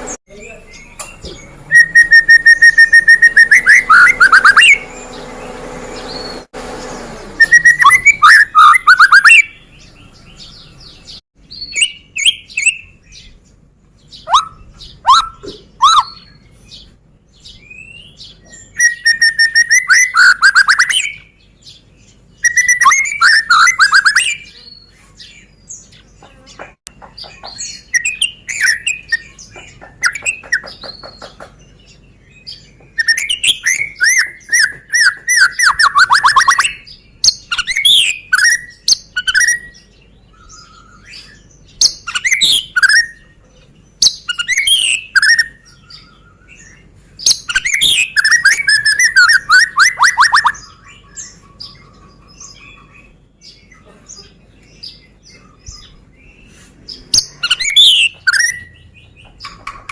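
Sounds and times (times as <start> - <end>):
bird singing trills and whistles: 0.0 - 6.5, 7.4 - 26.3, 26.9 - 59.9.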